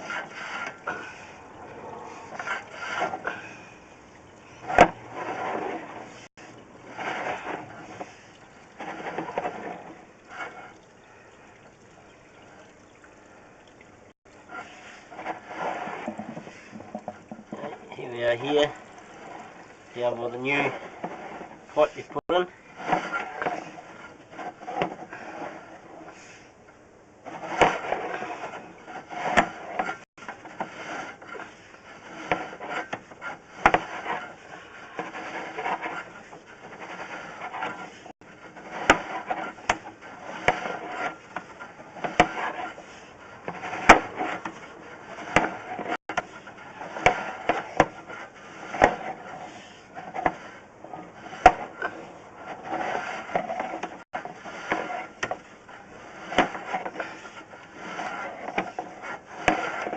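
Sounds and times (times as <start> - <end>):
push rod scraping inside pipe: 0.0 - 13.4, 14.3 - 26.6, 27.2 - 59.9.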